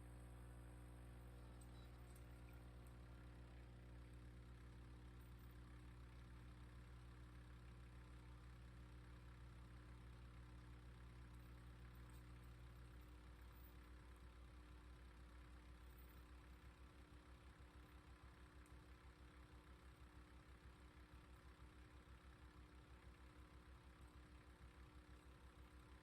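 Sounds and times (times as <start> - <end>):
faint engine idling: 0.0 - 26.0.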